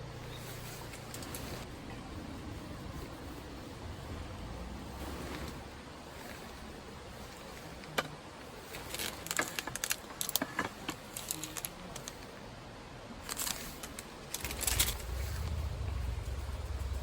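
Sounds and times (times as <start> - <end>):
rustles: 0.0 - 17.0.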